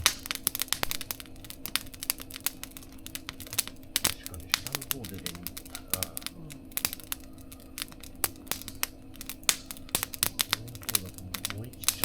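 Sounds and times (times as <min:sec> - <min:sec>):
faint steady hum: 0:00.0 - 0:12.0
wood fire crackling: 0:00.0 - 0:12.0.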